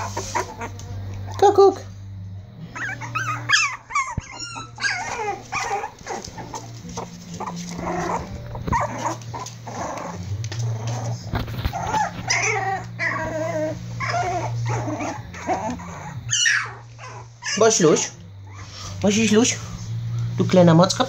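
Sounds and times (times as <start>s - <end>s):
puppies giving high calls: 0.0s - 1.6s, 2.6s - 19.8s.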